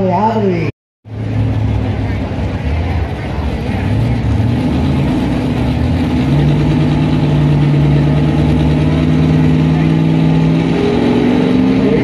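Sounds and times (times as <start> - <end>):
truck engine running hard: 1.0 - 12.0.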